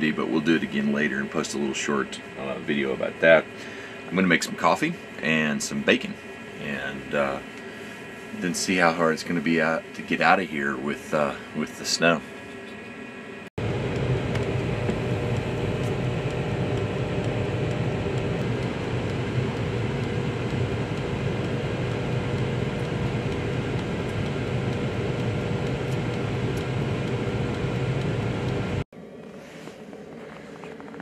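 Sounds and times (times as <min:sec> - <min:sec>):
convection fan hum and whoosh: 0:00.0 - 0:31.0.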